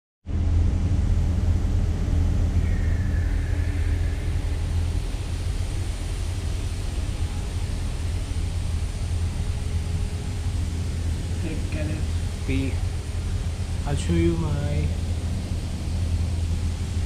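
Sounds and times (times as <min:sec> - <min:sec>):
faint humming tones: 0:00.3 - 0:17.0
ship machinery low drone: 0:00.3 - 0:17.0.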